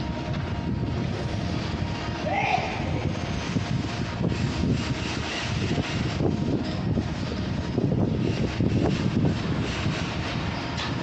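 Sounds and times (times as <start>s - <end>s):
construction machinery rumbling: 0.0s - 11.0s.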